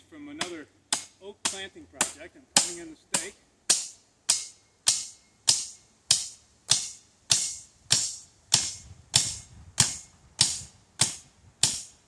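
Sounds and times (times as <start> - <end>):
hatchet striking wooden stake: 0.4 - 12.0.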